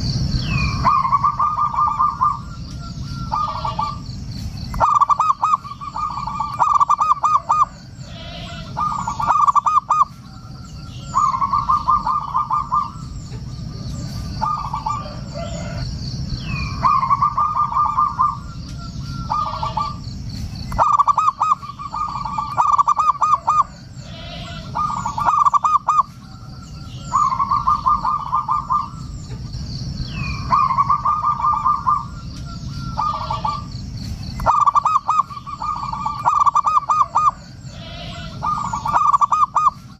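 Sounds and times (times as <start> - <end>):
steady low hum: 0.0 - 39.9
dove cooing: 0.4 - 4.1, 4.7 - 15.9, 16.5 - 39.9.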